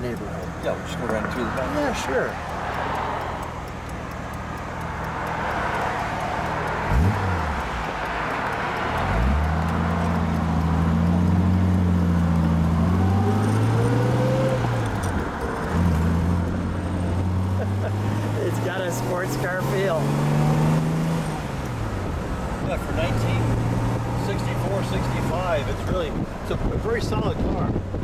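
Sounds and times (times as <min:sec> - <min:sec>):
car engine accelerating: 0:00.0 - 0:28.0
road noise: 0:00.0 - 0:28.0.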